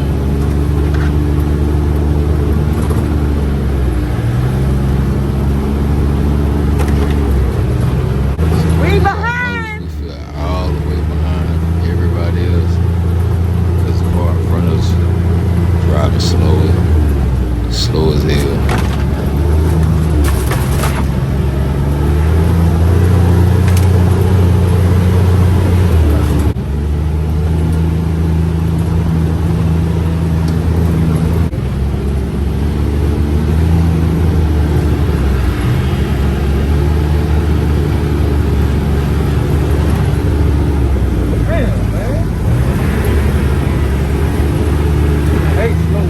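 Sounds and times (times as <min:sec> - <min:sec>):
vehicle engine droning: 0:00.0 - 0:46.0.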